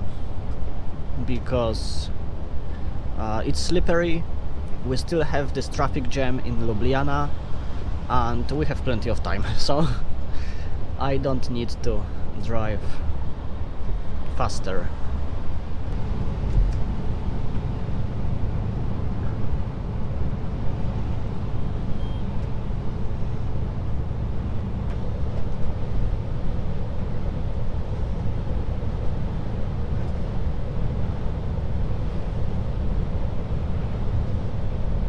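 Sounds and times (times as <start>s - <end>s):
truck engine and road noise drone: 0.0s - 35.0s.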